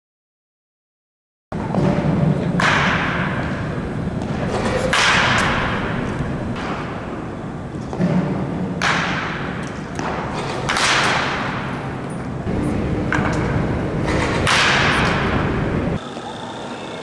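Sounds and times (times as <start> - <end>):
bat cracking baseballs: 1.6 - 15.9.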